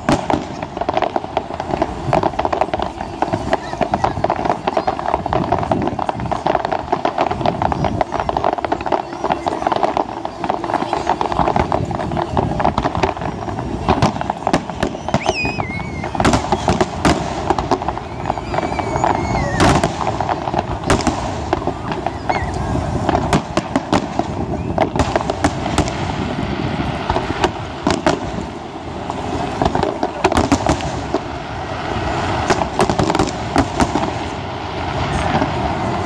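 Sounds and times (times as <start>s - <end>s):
continuous rumbling: 0.0s - 36.0s
fireworks bangs: 0.0s - 36.0s.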